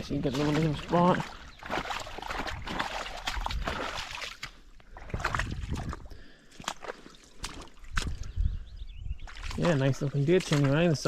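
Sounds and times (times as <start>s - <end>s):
splashes and knocks: 0.0s - 8.3s, 9.2s - 11.0s
water sloshing and gurgling: 0.0s - 11.0s.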